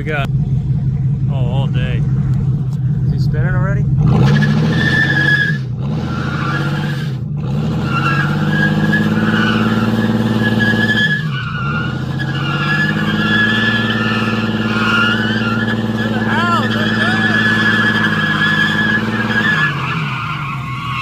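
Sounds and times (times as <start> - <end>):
truck engines revving: 0.0 - 21.0
tire squeal: 4.1 - 21.0.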